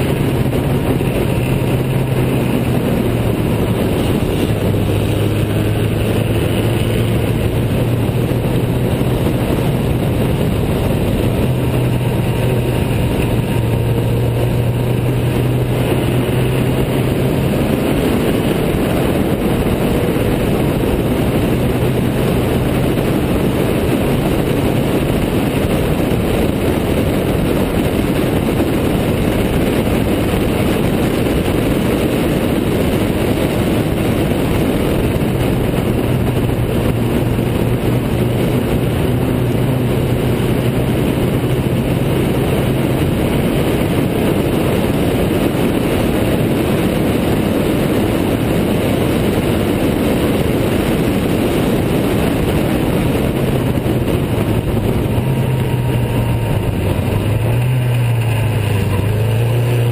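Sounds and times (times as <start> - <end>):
car engine droning at high revs: 0.0 - 59.9
rushing wind noise: 0.0 - 59.9.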